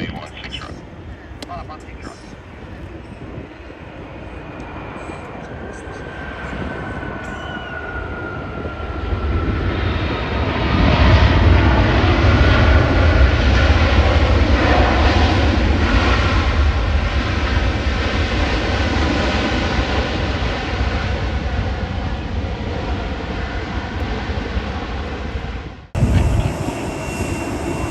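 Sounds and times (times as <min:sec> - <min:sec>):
faint steady engine whine: 0:00.0 - 0:27.9
jet engines rumbling: 0:00.0 - 0:27.9.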